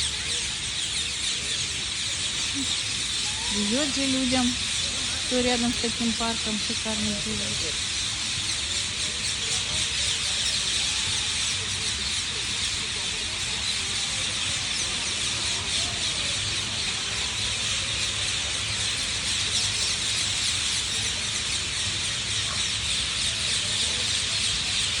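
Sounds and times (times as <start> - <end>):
chorus of birds chirping: 0.0 - 25.0.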